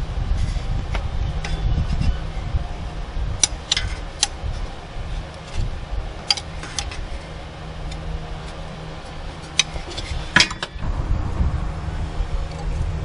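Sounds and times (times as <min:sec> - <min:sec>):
low hum and rumble: 0:00.0 - 0:13.0.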